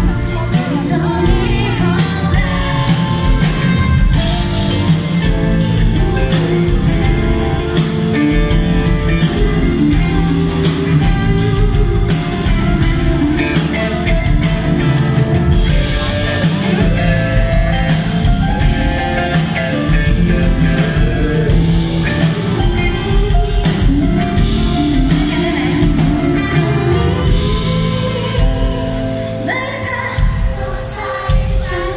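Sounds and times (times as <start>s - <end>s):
drum kit: 0.0s - 31.9s
live band playing pop-rock: 0.0s - 31.9s.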